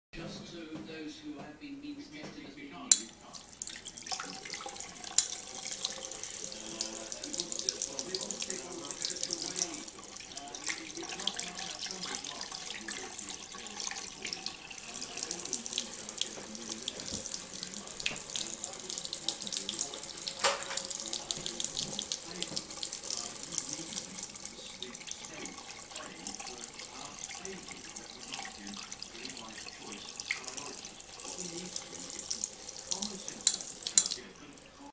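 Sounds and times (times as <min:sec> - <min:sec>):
faucet water splashing into sink: 0:02.9 - 0:34.9.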